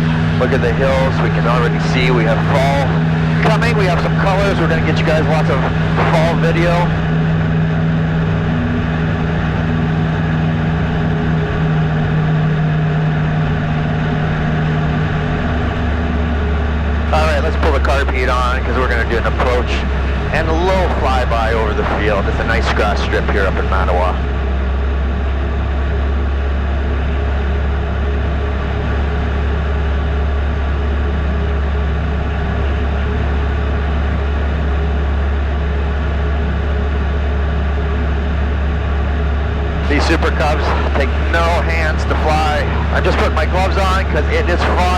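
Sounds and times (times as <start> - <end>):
propeller plane engine from cockpit: 0.0 - 44.9.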